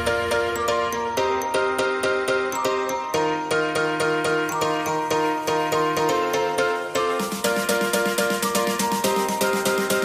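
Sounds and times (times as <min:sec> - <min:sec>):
instrumental music with repeated notes: 0:00.0 - 0:10.0.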